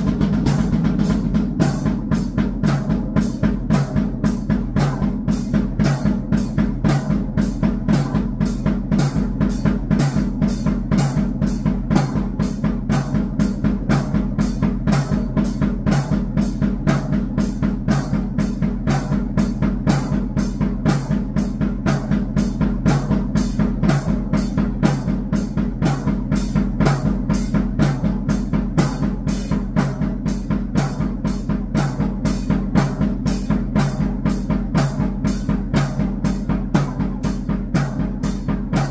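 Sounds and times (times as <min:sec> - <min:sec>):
drum kit fast beat: 0:00.0 - 0:38.9.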